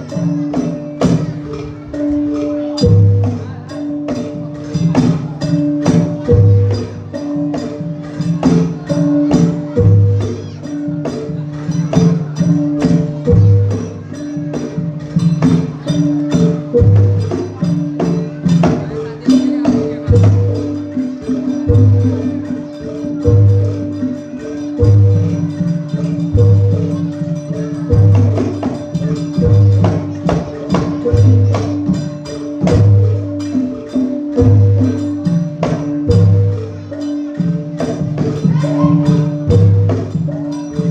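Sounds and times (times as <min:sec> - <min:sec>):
gamelan music: 0:00.0 - 0:40.9
struck metal percussion: 0:00.0 - 0:40.9.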